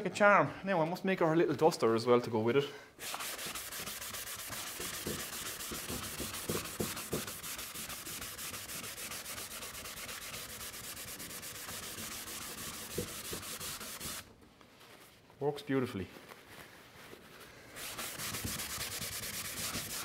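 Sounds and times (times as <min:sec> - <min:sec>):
cloth rubbing on blackboard: 0:03.0 - 0:15.2, 0:16.2 - 0:20.0.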